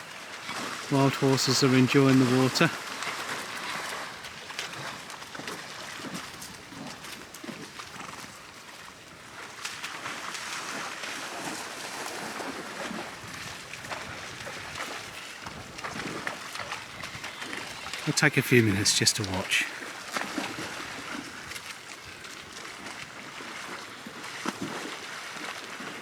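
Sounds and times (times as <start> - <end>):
ponies splashing in water: 0.0 - 1.0, 2.6 - 18.1, 19.7 - 26.0.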